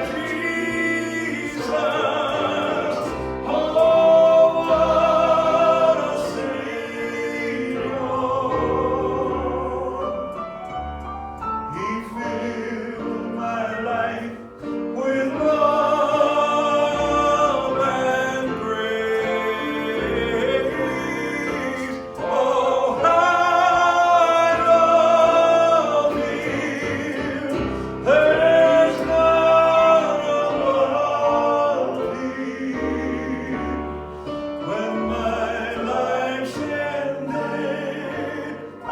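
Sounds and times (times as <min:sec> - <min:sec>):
gospel choir singing: 0:00.0 - 0:38.9
instrumental accompaniment: 0:00.0 - 0:38.9.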